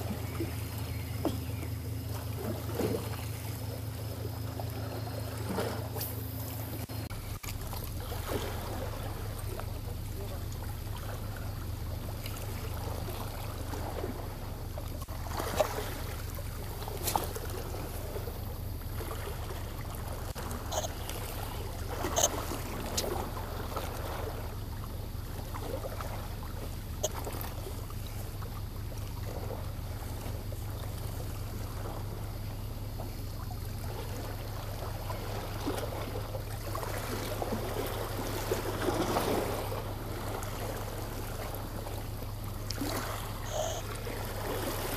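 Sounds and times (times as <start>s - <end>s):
seawater lapping against rocks: 0.0s - 44.9s
steady low hum: 0.0s - 44.9s.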